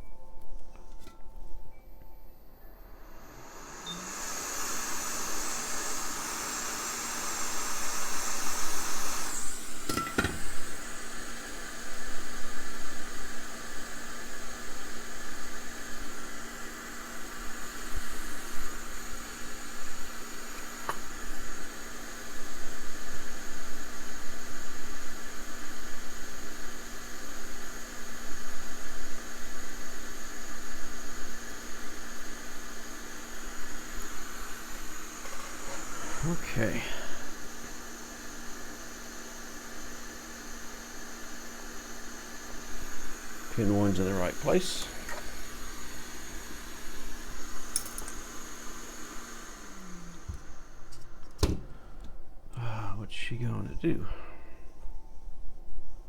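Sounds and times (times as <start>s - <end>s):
fan blowing air: 0.0s - 55.6s.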